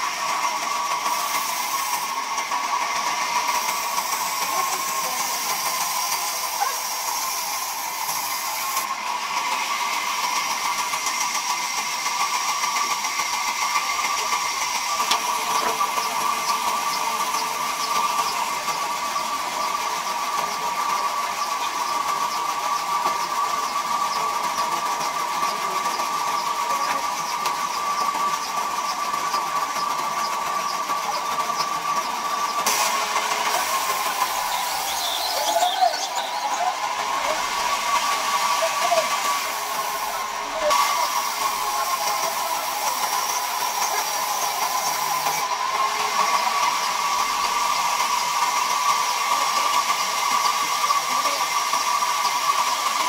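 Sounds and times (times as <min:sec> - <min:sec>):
band saw cutting wood: 0:00.0 - 0:53.0.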